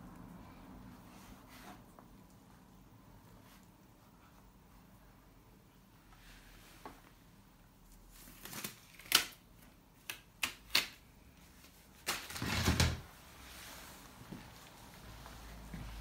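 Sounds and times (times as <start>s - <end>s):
rustling and shuffling: 0.0s - 8.8s, 11.4s - 16.0s.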